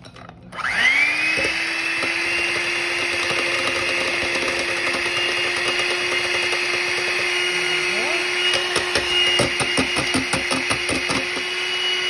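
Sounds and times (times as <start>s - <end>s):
electric hand mixer whining: 0.5s - 12.0s.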